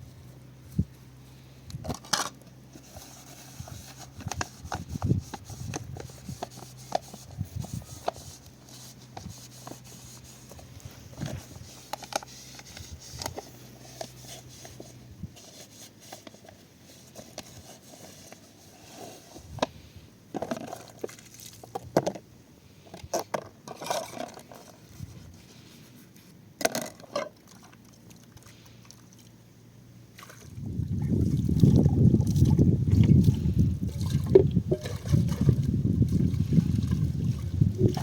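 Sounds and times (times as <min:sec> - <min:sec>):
low steady hum: 0:00.0 - 0:38.0
objects being handled: 0:01.8 - 0:28.6, 0:31.6 - 0:38.0.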